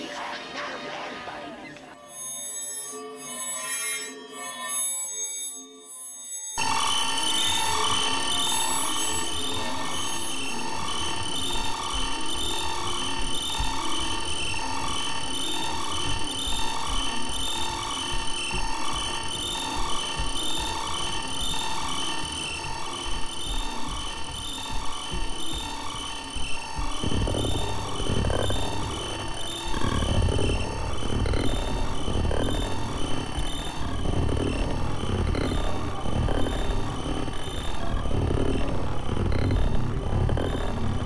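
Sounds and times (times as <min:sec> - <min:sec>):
pulsing electronic tones: 0:00.0 - 0:41.0.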